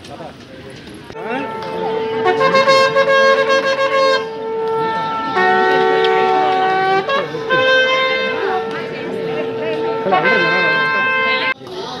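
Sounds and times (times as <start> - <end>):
conch shells blown: 1.2 - 11.6.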